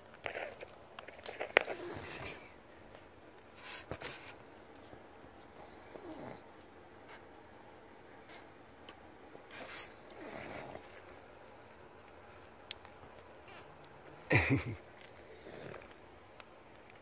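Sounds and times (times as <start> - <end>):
rustling of fur and blanket: 0.0 - 14.2.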